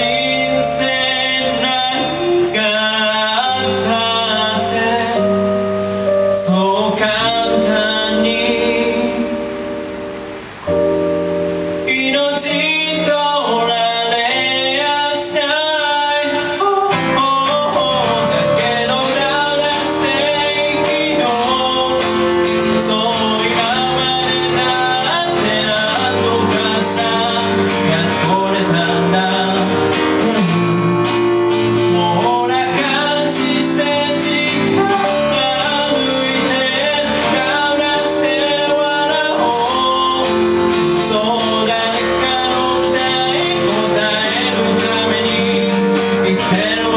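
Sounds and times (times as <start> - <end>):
man singing: 0.0 - 9.9, 11.8 - 46.9
acoustic guitar strumming: 0.0 - 46.9
electric keyboard: 0.0 - 46.9.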